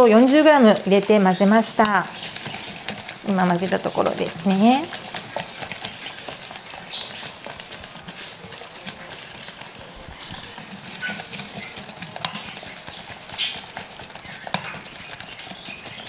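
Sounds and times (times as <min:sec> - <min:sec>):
whisk clicking against glass bowl: 0:00.0 - 0:16.0
whisk scraping bowl: 0:00.0 - 0:16.0.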